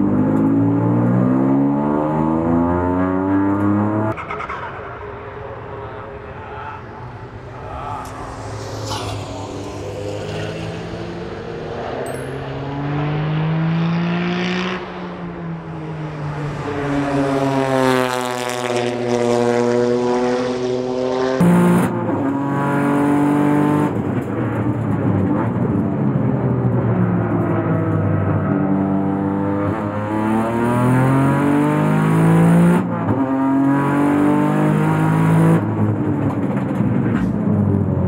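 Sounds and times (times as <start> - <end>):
race car engine accelerating hard: 0.0 - 38.0.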